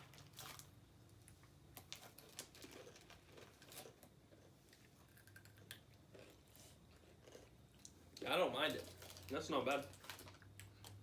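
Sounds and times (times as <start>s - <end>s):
potato chips crunching: 0.0s - 0.7s, 1.8s - 11.0s.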